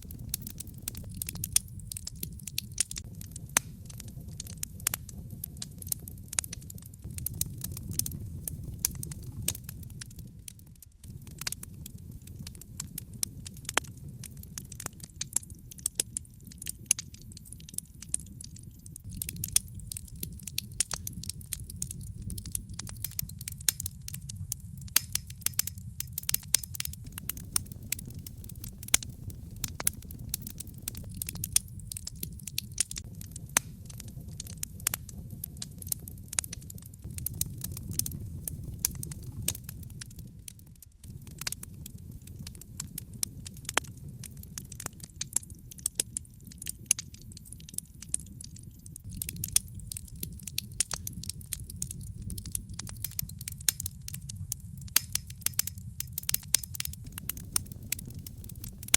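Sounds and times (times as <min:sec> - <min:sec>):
burning logs popping and snapping: 0:00.0 - 0:58.9
fire flames rumbling: 0:00.0 - 0:58.9.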